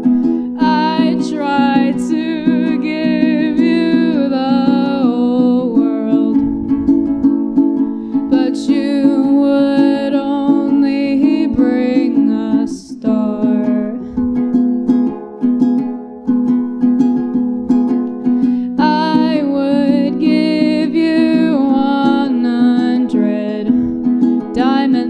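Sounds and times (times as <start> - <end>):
person singing: 0.0 - 14.5, 18.2 - 25.0
ukulele strumming: 0.0 - 25.0.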